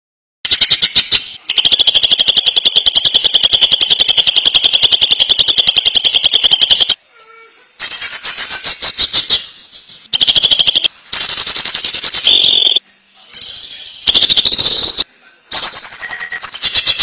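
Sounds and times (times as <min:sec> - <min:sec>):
bird rattling song: 0:00.5 - 0:07.0, 0:07.8 - 0:12.8, 0:13.6 - 0:17.0.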